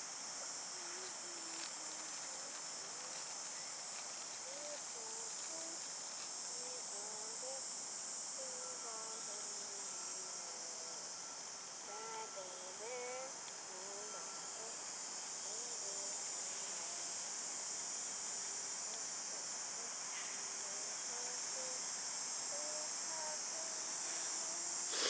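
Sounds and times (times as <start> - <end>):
insect chorus buzzing: 0.0 - 25.0.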